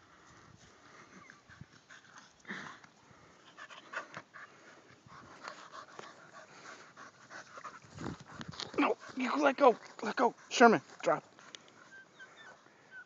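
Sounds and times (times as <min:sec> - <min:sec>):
dogs panting: 0:00.2 - 0:13.0.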